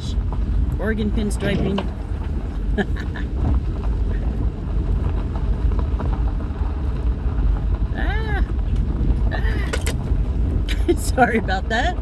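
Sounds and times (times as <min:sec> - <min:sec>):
vehicle rumbling on bumpy road: 0:00.0 - 0:12.0.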